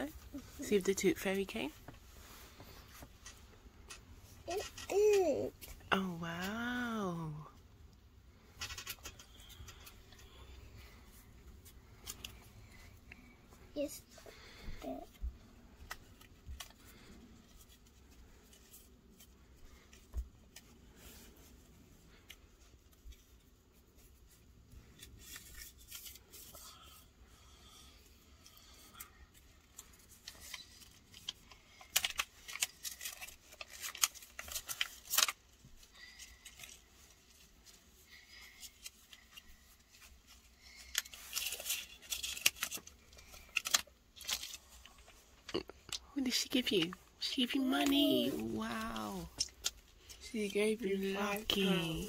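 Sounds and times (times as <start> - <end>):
paper rustling and crinkling: 8.4 - 27.0, 28.5 - 52.0.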